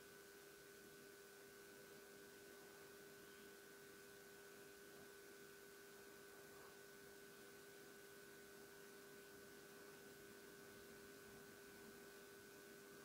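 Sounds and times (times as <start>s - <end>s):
steady faint tones: 0.0s - 13.0s.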